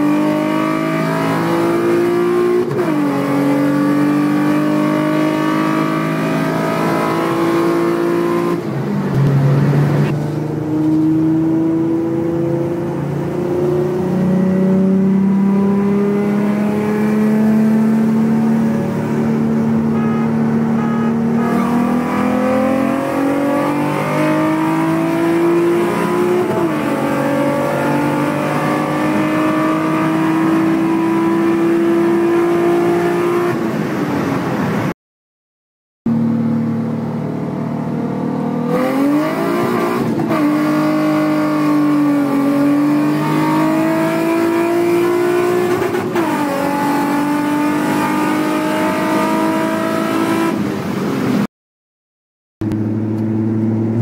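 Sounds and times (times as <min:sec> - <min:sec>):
car engine at full throttle: 0:00.0 - 0:34.9, 0:36.1 - 0:51.5, 0:52.6 - 0:54.0.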